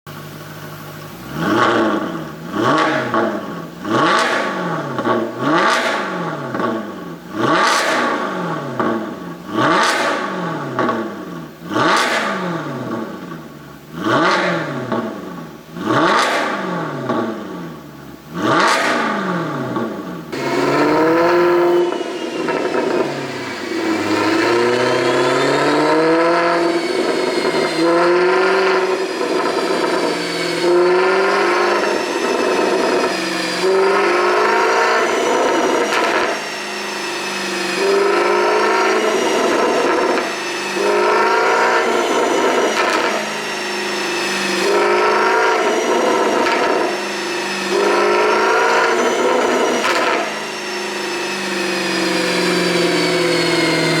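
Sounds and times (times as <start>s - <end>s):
car engine revving: 0.2s - 54.0s.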